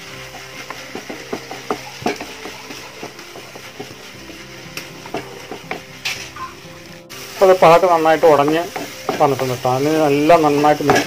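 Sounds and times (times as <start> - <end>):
frying sizzle: 0.0 - 11.0
spatula scraping a pan: 0.0 - 11.0.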